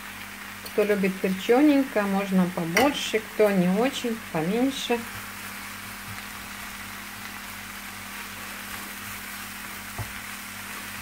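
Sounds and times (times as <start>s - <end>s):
greens sizzling in oil: 0.0s - 11.0s.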